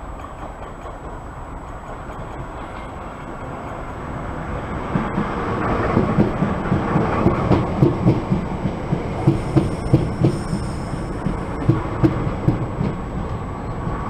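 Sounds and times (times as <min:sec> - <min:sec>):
electric train rumble: 0:00.0 - 0:14.0
train wheels clattering on track: 0:00.0 - 0:14.0.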